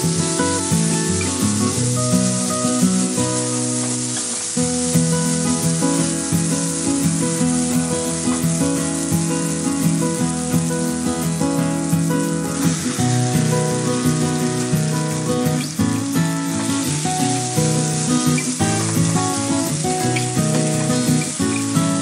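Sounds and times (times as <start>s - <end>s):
background music: 0.0s - 22.0s
masala sizzling in hot oil: 0.0s - 22.0s.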